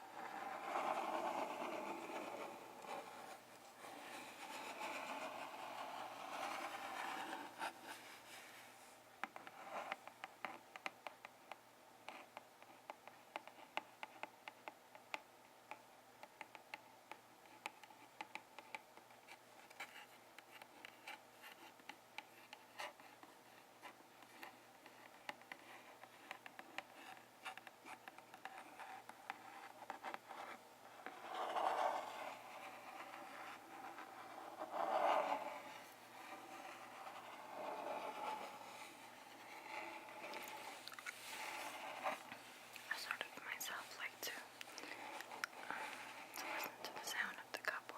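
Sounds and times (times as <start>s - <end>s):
scratching and tapping on object: 9.2s - 47.8s.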